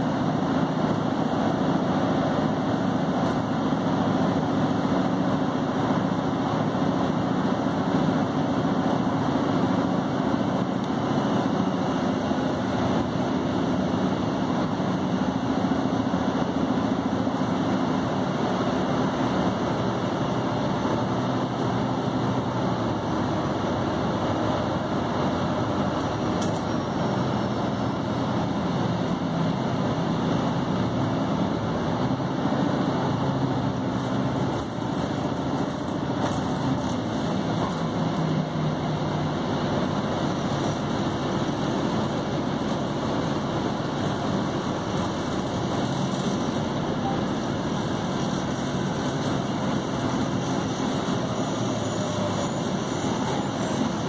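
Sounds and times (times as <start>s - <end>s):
bus engine hum: 0.0s - 54.0s
road noise: 0.0s - 54.0s.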